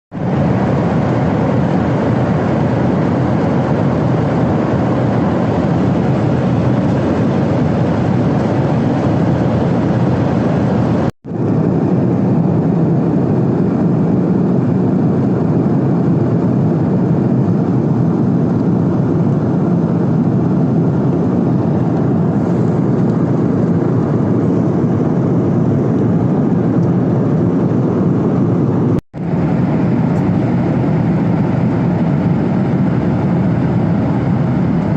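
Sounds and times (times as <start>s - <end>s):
airliner cabin engine rush: 0.1s - 34.9s.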